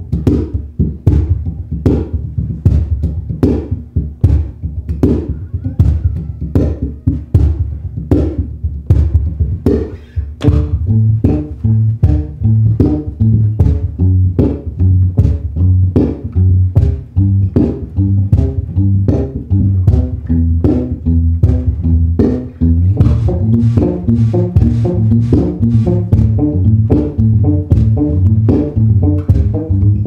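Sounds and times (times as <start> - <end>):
plucked electric bass riff: 0.0 - 30.0
sustained low bass notes: 0.0 - 30.0.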